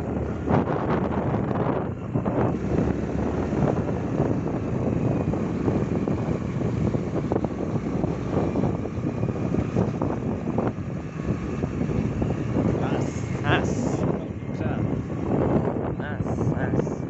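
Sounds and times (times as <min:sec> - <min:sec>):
motorbike engine cruising: 0:00.0 - 0:17.0
wind buffeting microphone: 0:00.0 - 0:17.0.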